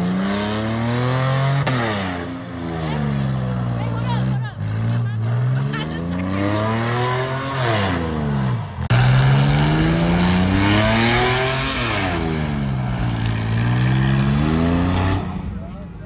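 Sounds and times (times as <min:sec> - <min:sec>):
car engine revving hard: 0:00.0 - 0:03.4, 0:04.3 - 0:15.4.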